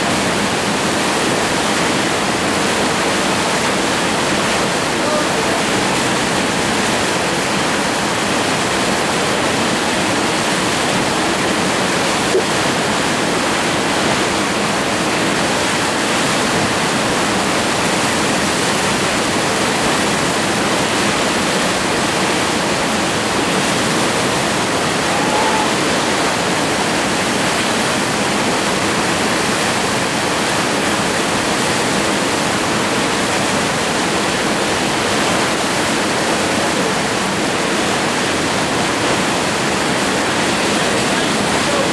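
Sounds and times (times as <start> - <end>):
whitewater rapids rushing: 0.0 - 41.9.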